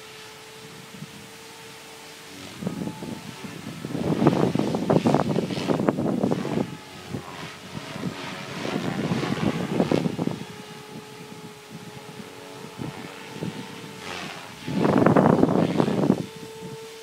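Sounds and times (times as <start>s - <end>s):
rc helicopter motor whine: 0.0s - 17.0s
wind gusts on microphone: 0.0s - 17.0s.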